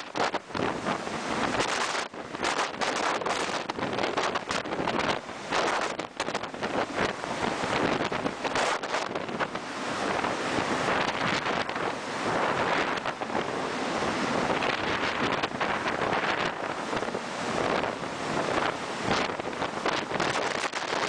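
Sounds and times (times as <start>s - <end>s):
heavy seas breaking: 0.0s - 21.0s
wind buffeting microphone: 0.0s - 21.0s.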